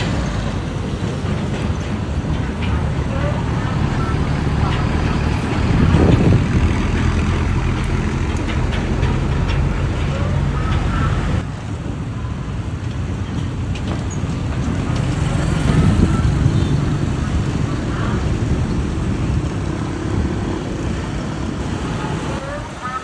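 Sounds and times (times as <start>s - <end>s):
road and traffic noise: 0.0s - 23.0s
truck engine humming: 0.0s - 23.0s.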